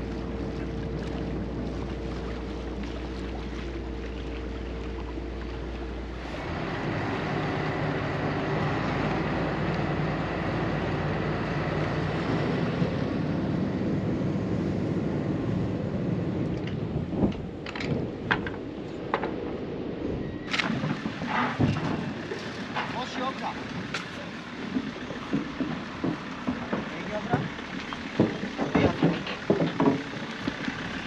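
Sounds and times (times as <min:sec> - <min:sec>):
boat engine running: 0:00.0 - 0:31.0
water noise: 0:00.0 - 0:31.0
wind: 0:00.0 - 0:31.0.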